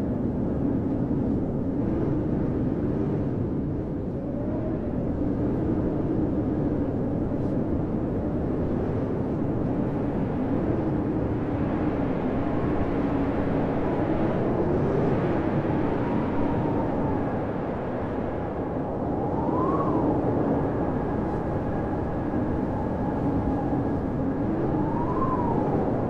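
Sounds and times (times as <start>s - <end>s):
wind howling: 0.0s - 26.0s.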